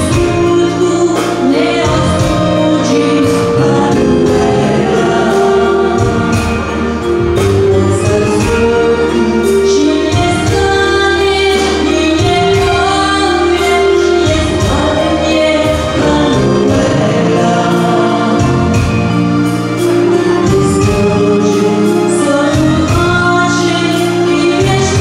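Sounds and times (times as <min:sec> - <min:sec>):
band with accordions: 0:00.0 - 0:25.0
woman singing into microphone: 0:00.0 - 0:25.0.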